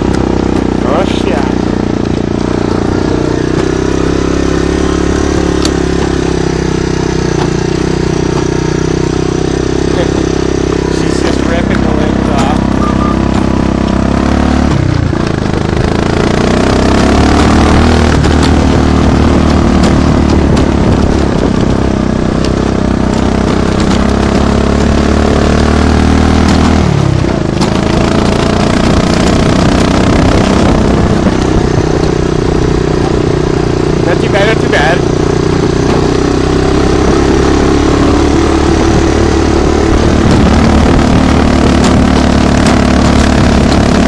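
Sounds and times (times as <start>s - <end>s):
engine running under load: 0.0s - 44.0s
clatter: 5.3s - 9.2s, 9.8s - 34.6s, 35.3s - 44.0s.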